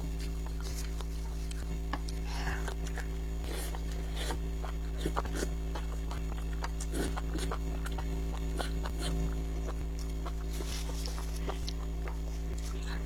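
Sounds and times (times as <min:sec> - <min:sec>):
steady low hum: 0:00.0 - 0:13.0
wet chewing sounds: 0:00.0 - 0:13.0.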